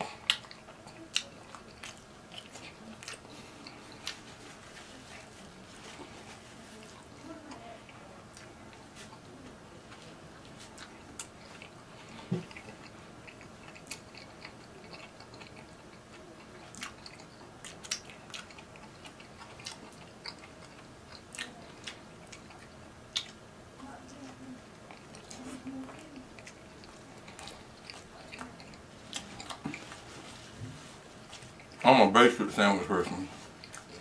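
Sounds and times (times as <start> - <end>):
person chewing sandwich: 0.0 - 23.6, 24.7 - 31.9, 33.0 - 34.0.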